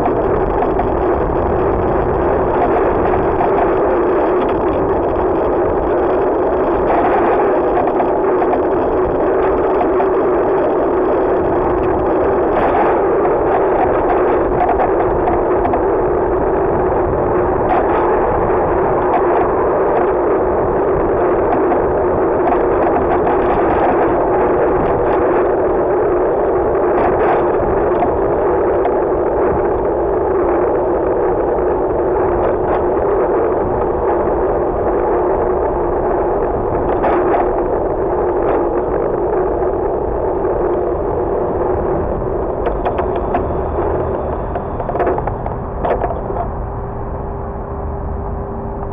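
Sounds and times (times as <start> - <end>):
rushing wind and road noise: 0.0 - 48.9.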